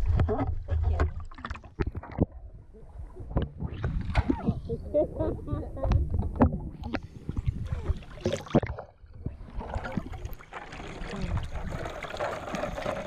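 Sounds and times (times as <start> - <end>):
water splashing in a pool: 0.0 - 4.8, 6.5 - 13.0.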